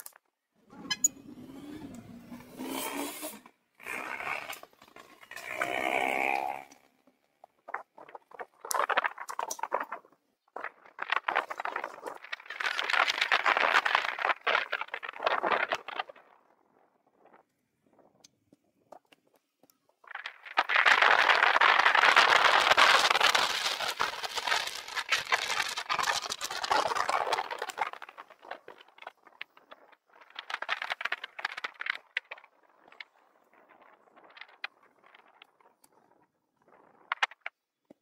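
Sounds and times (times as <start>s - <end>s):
bicycle rattling and scraping: 0.0s - 37.7s
wind and road noise on microphone: 0.0s - 38.0s.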